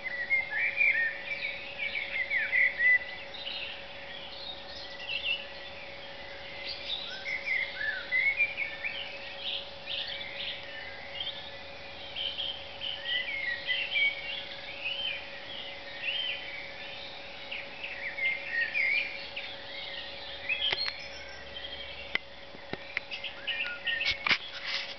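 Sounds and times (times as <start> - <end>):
faint steady hum: 0.0 - 24.9
many birds singing: 0.0 - 24.9.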